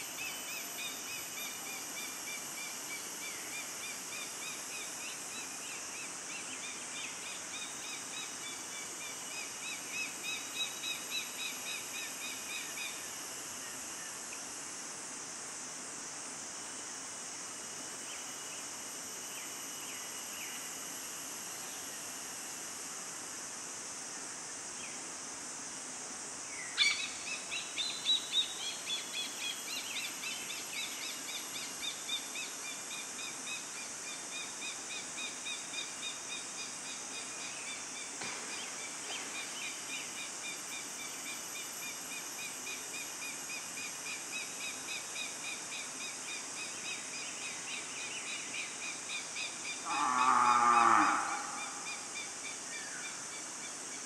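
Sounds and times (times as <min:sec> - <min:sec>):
forest insects hissing: 0:00.0 - 0:54.0.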